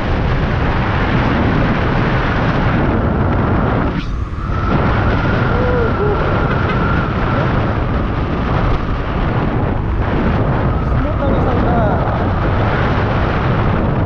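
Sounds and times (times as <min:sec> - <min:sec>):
scooter engine and road noise: 0:00.0 - 0:14.0
thin steady whine: 0:00.0 - 0:14.0
wind buffeting microphone: 0:00.0 - 0:14.0.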